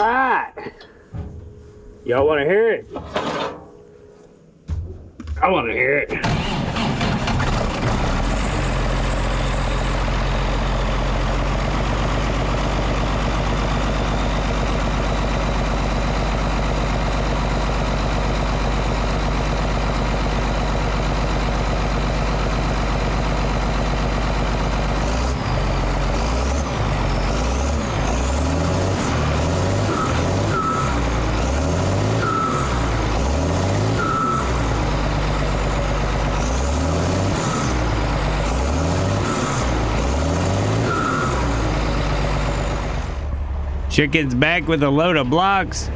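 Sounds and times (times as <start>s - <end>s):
engine idling and revving: 6.2s - 45.3s.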